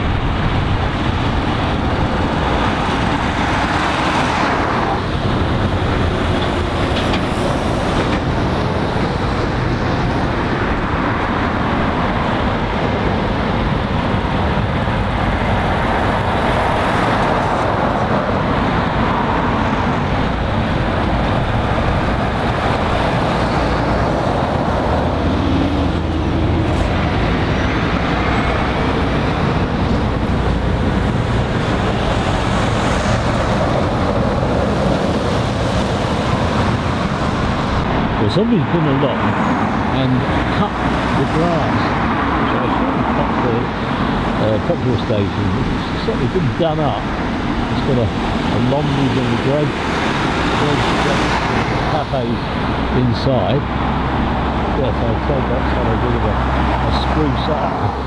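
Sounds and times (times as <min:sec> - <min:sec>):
trucks passing: 0:00.0 - 0:58.0.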